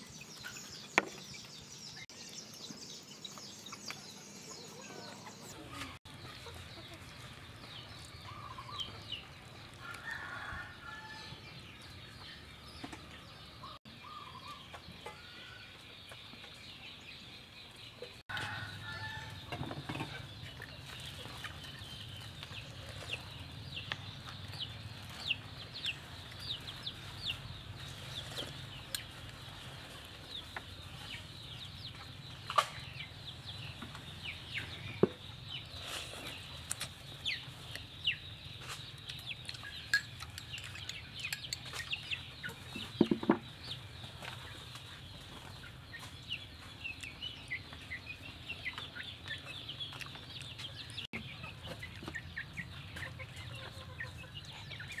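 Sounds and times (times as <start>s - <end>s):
chickens peeping: 0.0s - 55.0s.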